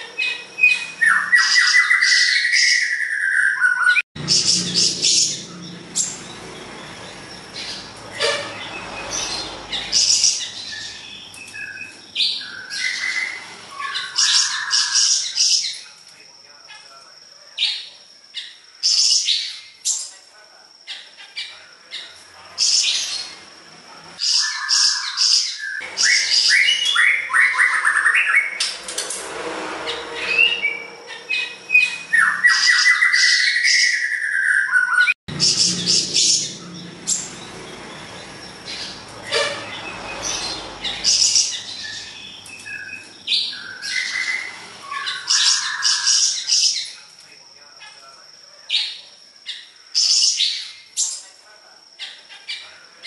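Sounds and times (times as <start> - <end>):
songbird chirping and singing: 0.0 - 28.8, 29.8 - 51.4, 52.0 - 53.0.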